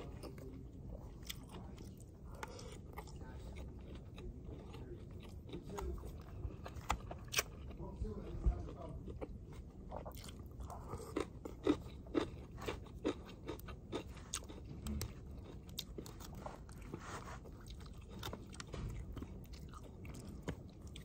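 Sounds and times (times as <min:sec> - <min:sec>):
person crunching raw cabbage: 0:00.0 - 0:21.0.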